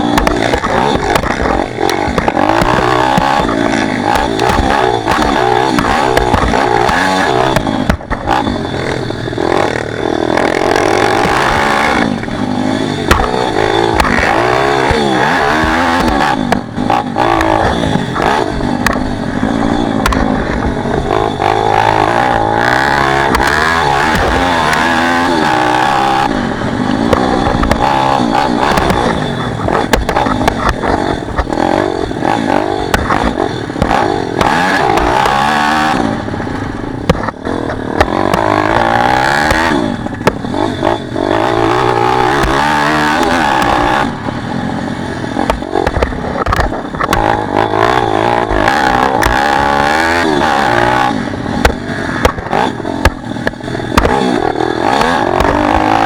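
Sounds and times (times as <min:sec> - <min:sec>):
pit bike engine revving: 0:00.0 - 0:56.0.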